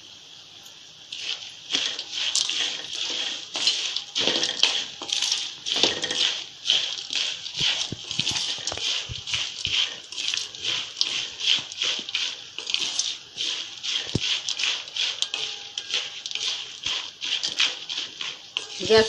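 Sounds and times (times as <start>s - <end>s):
spatula stirring nuts in a pan: 0.0s - 19.0s.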